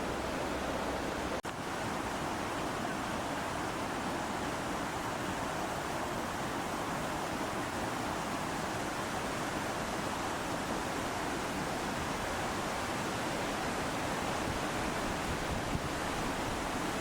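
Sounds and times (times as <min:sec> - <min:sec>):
stream rushing over waterfall: 0:00.0 - 0:17.0.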